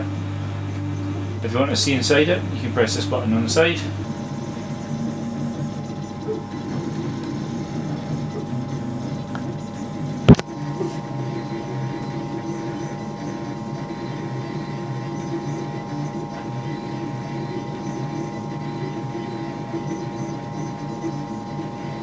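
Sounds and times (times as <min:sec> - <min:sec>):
printer motors churning: 0:00.0 - 0:22.0
steady hum: 0:00.0 - 0:22.0.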